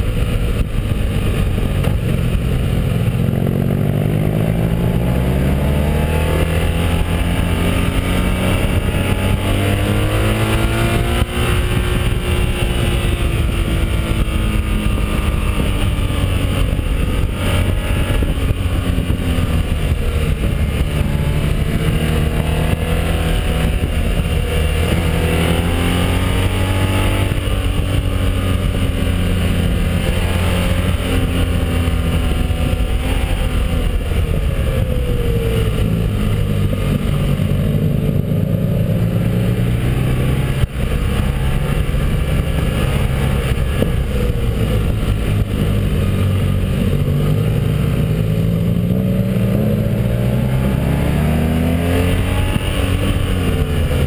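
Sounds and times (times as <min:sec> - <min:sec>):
motorcycle engine revving: 0:00.0 - 0:54.0
wind rush over microphone: 0:00.0 - 0:54.0.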